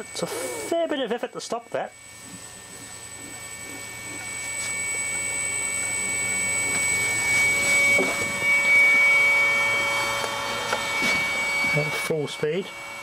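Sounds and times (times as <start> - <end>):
electric motor whine: 0.0 - 13.0
low electrical hum: 0.0 - 13.0.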